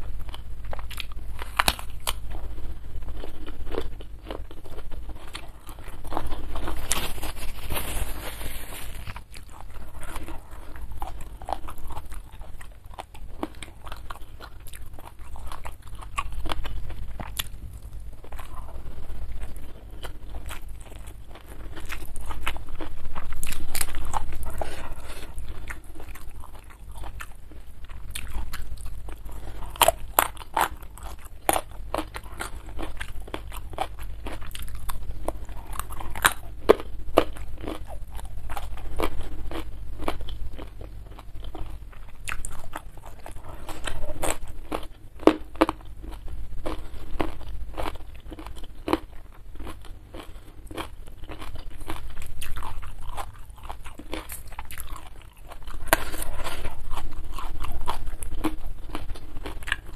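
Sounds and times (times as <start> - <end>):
person chewing with wet mouth noises: 0.0 - 59.9.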